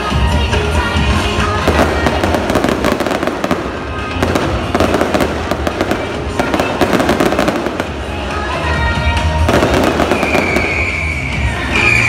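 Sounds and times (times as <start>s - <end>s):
fireworks crackling and popping: 0.0s - 12.0s
loud music with heavy bass: 0.0s - 12.0s.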